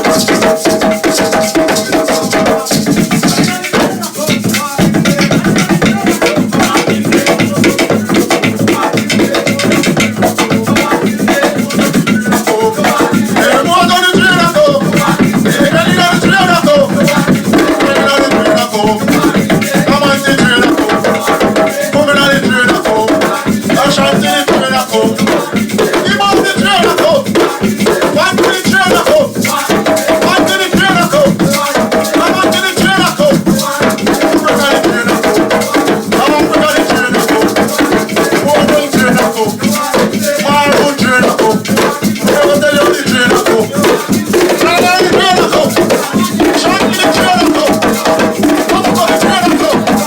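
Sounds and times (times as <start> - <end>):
hand drums played fast: 0.0 - 50.0
shakers rattling: 0.0 - 50.0
voices singing: 0.0 - 50.0.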